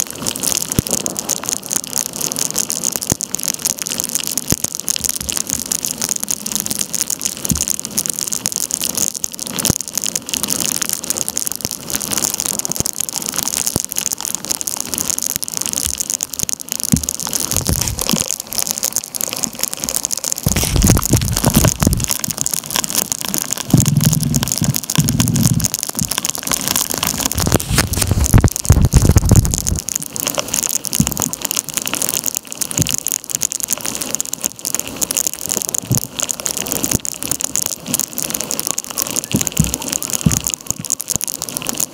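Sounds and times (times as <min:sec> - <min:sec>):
heavy rain on water: 0:00.0 - 0:41.9.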